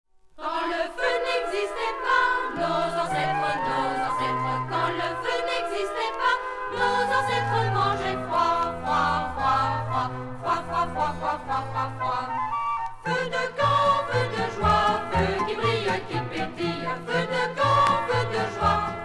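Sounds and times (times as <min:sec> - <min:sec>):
choir singing: 0:00.4 - 0:19.0
orchestral accompaniment: 0:01.1 - 0:19.0.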